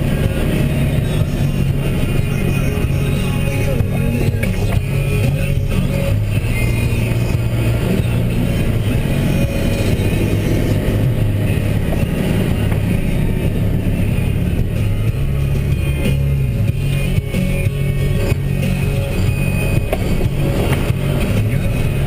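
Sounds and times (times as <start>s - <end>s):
diesel truck engine drone: 0.0s - 22.0s.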